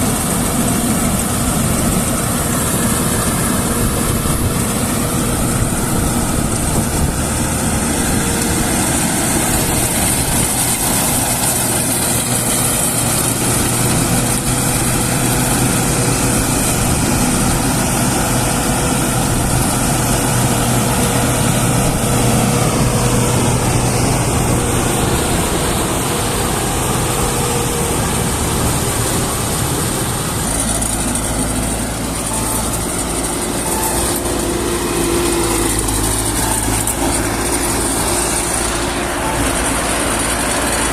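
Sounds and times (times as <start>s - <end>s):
farm machinery engine clattering: 0.0s - 40.9s.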